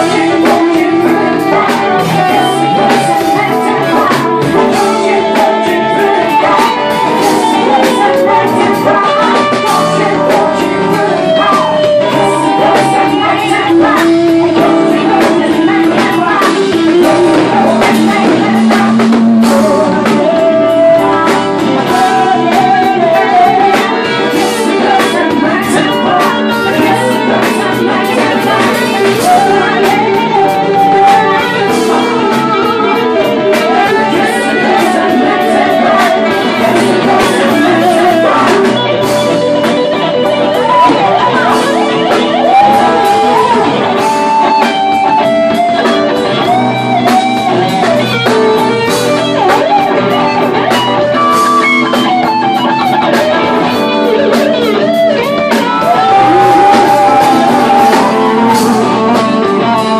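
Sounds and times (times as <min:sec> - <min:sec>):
drum kit: 0:00.0 - 0:59.9
electric guitar: 0:00.0 - 0:59.9
live band playing amplified music: 0:00.0 - 0:59.9.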